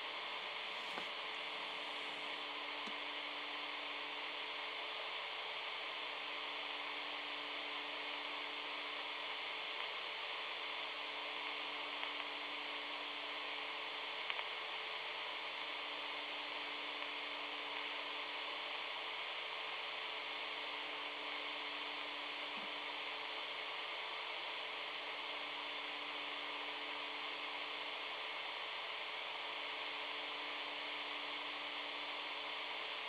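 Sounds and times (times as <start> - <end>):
faint hum tones: 0.0 - 33.0
radio static hiss: 0.0 - 33.0.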